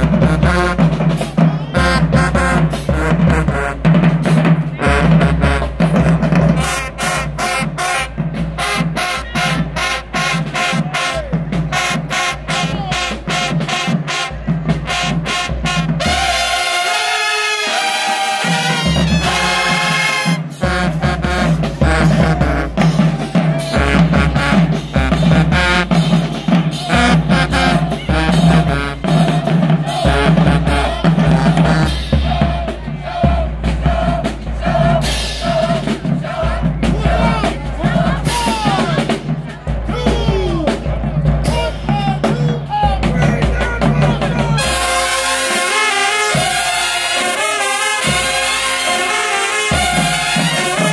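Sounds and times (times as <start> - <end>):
marching band playing: 0.0 - 50.9.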